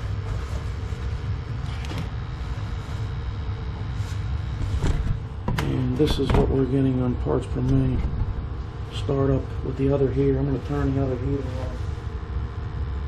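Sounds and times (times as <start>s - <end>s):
gas burner low rumble: 0.0s - 13.0s.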